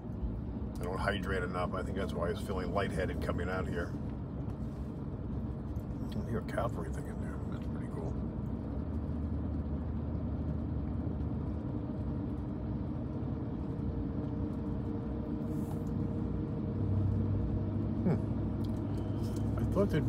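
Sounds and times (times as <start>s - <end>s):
car engine and tyre hum: 0.0s - 20.0s.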